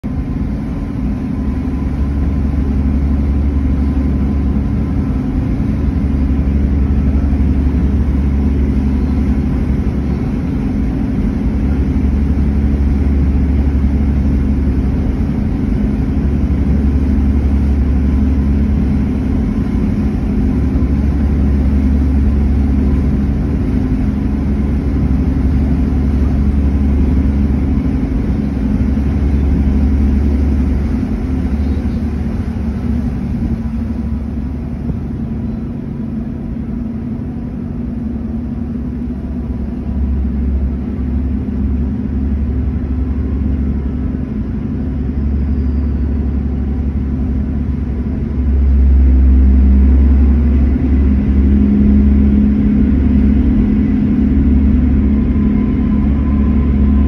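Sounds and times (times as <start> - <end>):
ferry engines rumbling: 0.0 - 57.0.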